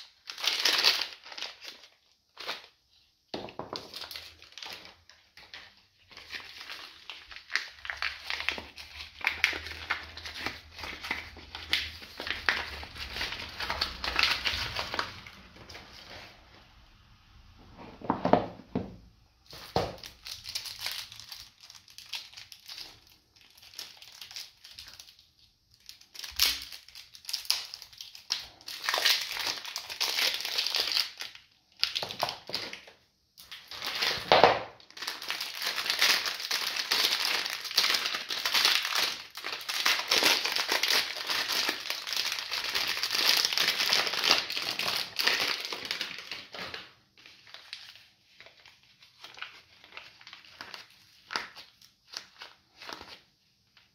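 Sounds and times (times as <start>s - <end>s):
plastic wrapping crinkling: 0.0s - 16.4s, 19.4s - 53.9s.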